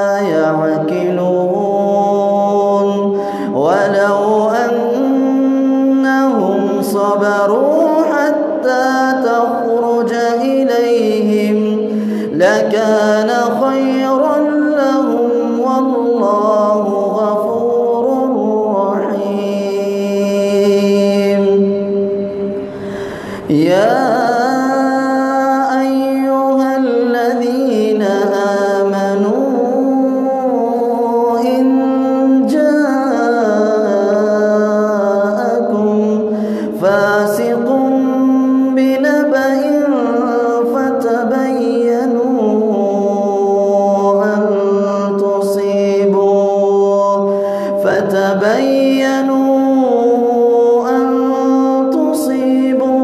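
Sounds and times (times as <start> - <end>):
man chanting melodically: 0.0 - 53.0.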